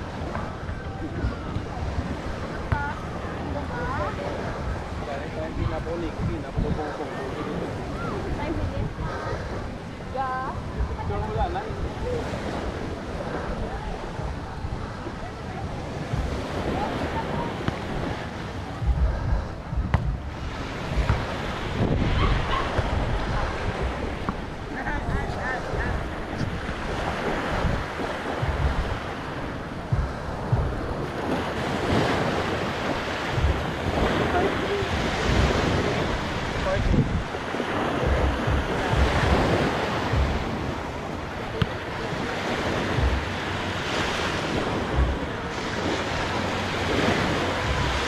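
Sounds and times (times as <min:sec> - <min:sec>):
small waves breaking on beach: 0:00.0 - 0:48.0
wind gusting on microphone: 0:00.0 - 0:48.0.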